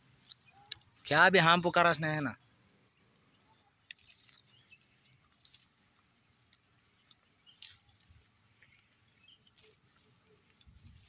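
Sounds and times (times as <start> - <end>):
faint outdoor hiss: 0.0 - 11.0
soft clicks and crackles: 0.1 - 1.2, 2.0 - 11.0.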